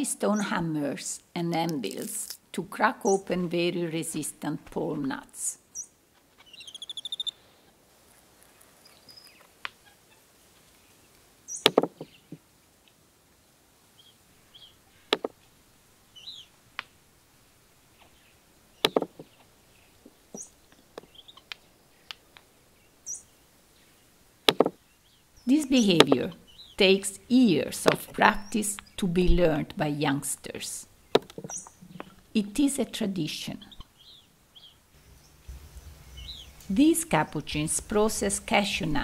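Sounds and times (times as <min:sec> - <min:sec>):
birds chirping faintly: 0:00.0 - 0:07.8, 0:08.4 - 0:39.0.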